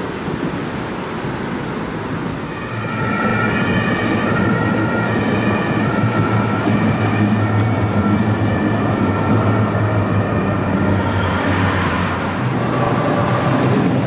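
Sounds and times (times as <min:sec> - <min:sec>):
city traffic noise: 0:00.0 - 0:14.0
passing tram rumble: 0:00.0 - 0:14.0
two-tone emergency siren: 0:02.4 - 0:14.0.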